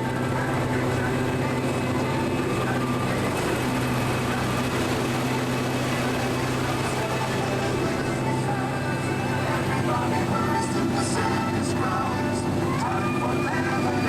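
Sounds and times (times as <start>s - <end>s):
low mechanical hum of ride vehicle: 0.0s - 14.0s.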